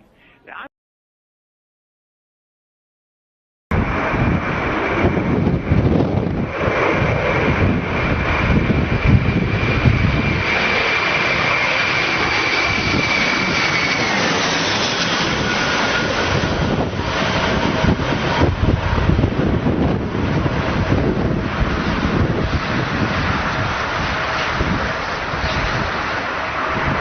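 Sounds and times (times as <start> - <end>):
aircraft engine whine: 3.7 - 27.0
rushing noise: 3.7 - 27.0.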